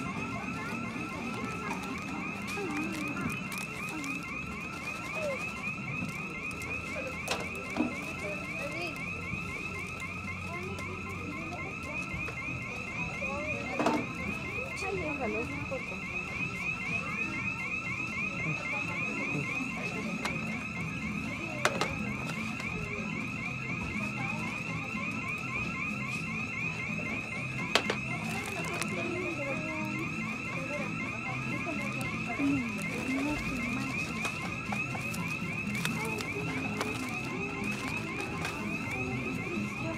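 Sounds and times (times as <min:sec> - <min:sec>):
electronic alarm warbling: 0:00.0 - 0:39.9.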